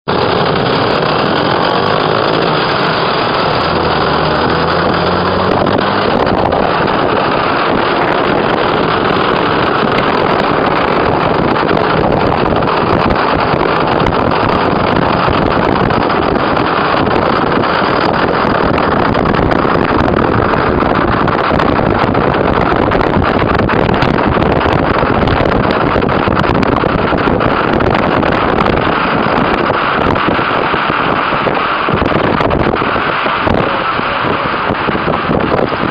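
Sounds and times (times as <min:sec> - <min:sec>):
motorcycle and car engines: 0:00.0 - 0:35.9
road and wind noise: 0:00.0 - 0:35.9.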